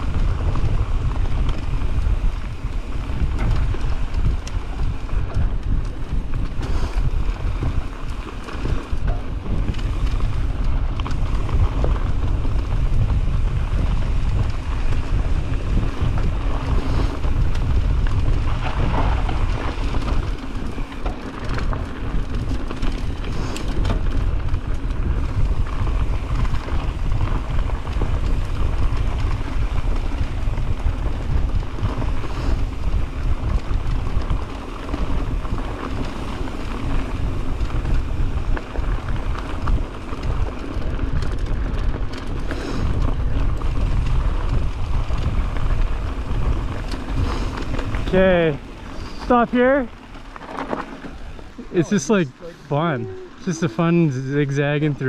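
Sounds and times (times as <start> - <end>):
tyres rolling over loose dirt: 0.0 - 55.0
wind buffeting microphone: 0.0 - 55.0.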